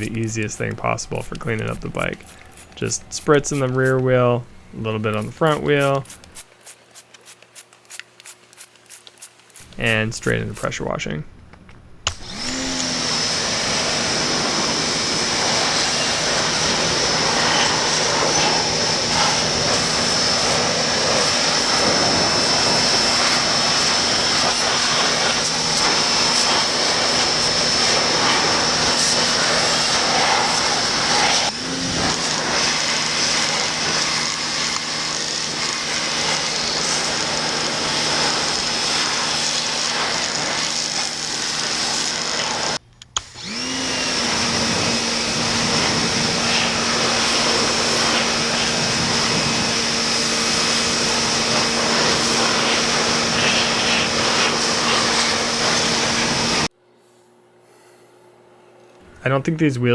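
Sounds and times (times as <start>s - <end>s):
pressure washer spraying water: 0.0s - 10.9s, 12.3s - 42.8s, 43.4s - 56.7s.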